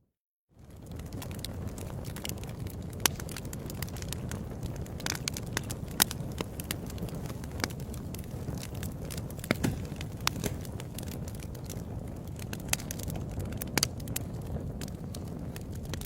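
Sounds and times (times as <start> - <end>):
wood fire crackling and popping: 0.6 - 16.0.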